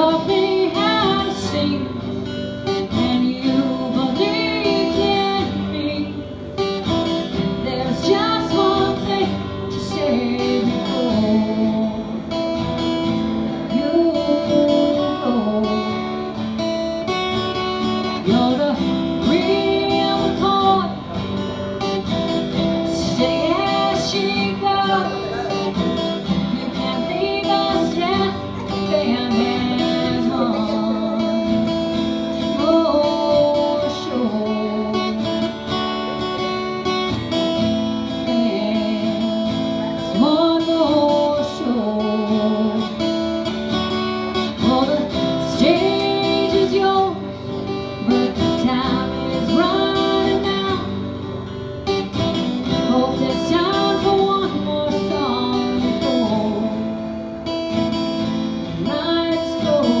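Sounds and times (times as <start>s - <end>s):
woman singing: 0.0s - 12.4s, 13.6s - 16.5s, 17.5s - 36.3s, 38.0s - 43.1s, 44.1s - 51.3s, 51.9s - 57.1s, 58.6s - 60.0s
strummed acoustic guitar: 0.0s - 60.0s.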